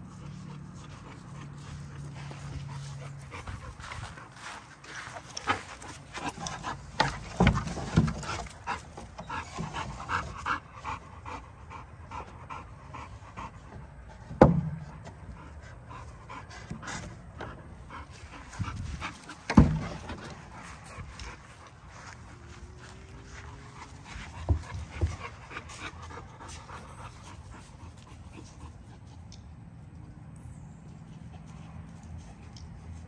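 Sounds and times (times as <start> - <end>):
dog panting: 0.0 - 14.2, 15.1 - 29.5.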